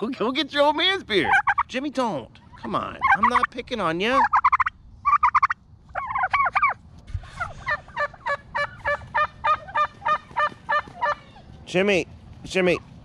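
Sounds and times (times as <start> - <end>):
turkeys calling: 0.6 - 11.5.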